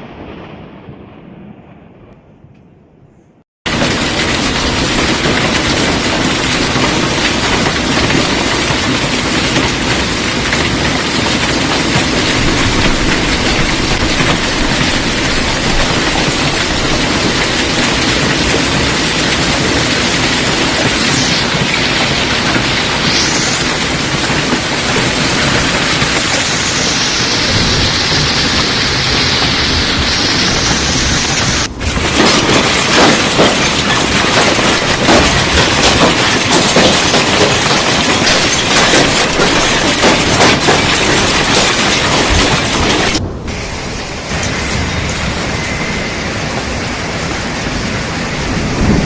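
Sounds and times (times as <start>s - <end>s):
hail and heavy rain pelting: 3.7s - 49.0s.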